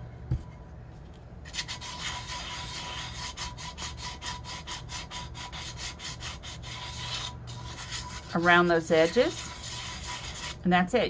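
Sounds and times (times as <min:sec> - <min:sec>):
sandpaper rubbing: 0:01.5 - 0:10.6.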